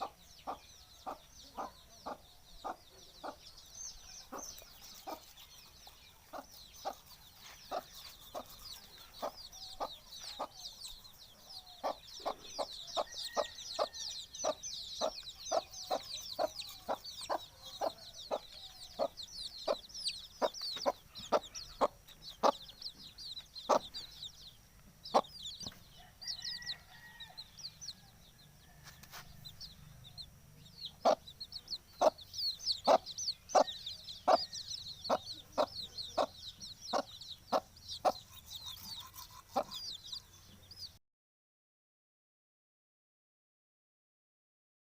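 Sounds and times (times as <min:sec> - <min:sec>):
rapid high-pitched chirping: 0:00.0 - 0:25.8, 0:29.4 - 0:40.9
chickens clucking: 0:00.0 - 0:27.1, 0:28.8 - 0:40.9.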